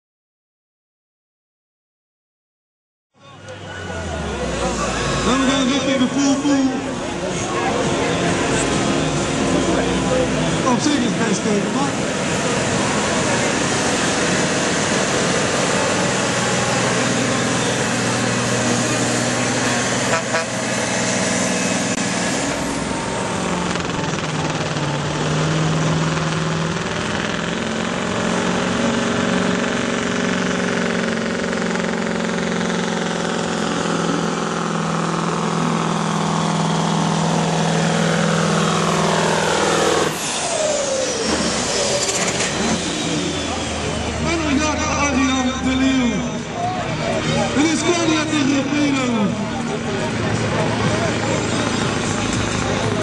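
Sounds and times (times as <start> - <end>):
diesel truck engines under load: 3.2 - 53.0.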